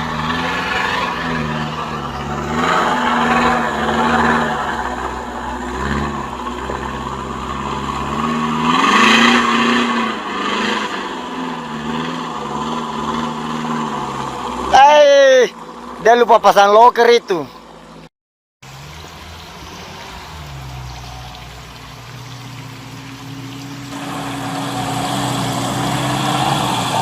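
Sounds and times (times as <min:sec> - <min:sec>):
truck engine revving: 0:00.0 - 0:16.2, 0:18.7 - 0:27.0
spinning tyres: 0:00.0 - 0:16.9, 0:18.6 - 0:27.0.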